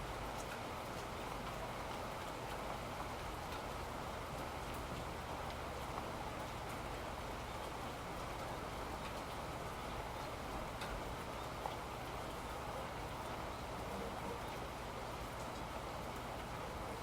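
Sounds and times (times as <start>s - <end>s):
faint drip ticks: 0.0s - 17.0s
rain falling: 0.0s - 17.0s.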